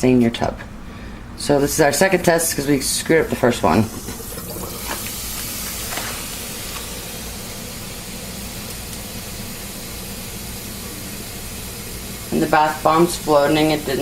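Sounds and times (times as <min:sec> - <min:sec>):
room fan humming: 0:00.0 - 0:14.0
bath bomb fizzing in water: 0:00.4 - 0:14.0.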